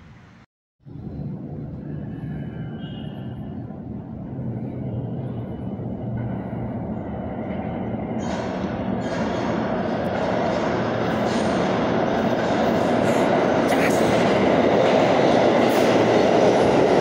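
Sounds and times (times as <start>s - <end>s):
subway train rumble in tunnel: 0.0s - 17.0s.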